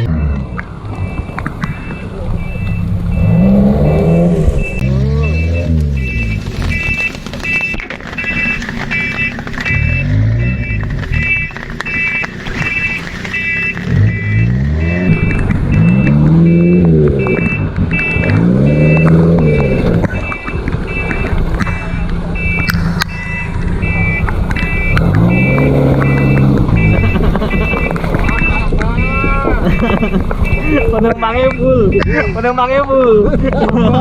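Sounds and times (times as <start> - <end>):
reversing alarm beeps: 0.0 - 32.6
car engine revving: 0.0 - 34.0.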